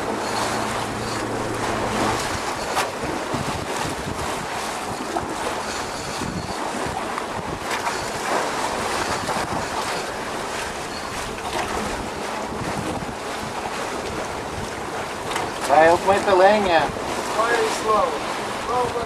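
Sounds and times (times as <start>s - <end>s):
rush of sea water: 0.0s - 19.0s
wind buffeting microphone: 0.0s - 19.0s.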